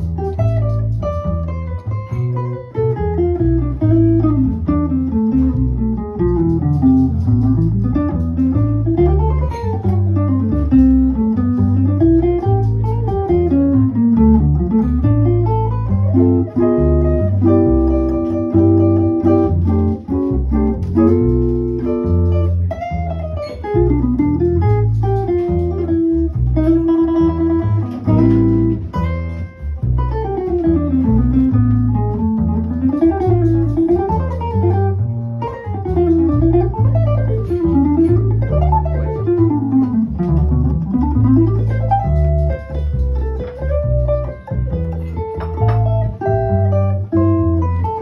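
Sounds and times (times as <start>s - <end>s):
jazz guitar: 0.0s - 48.0s
plucked double bass: 0.0s - 48.0s.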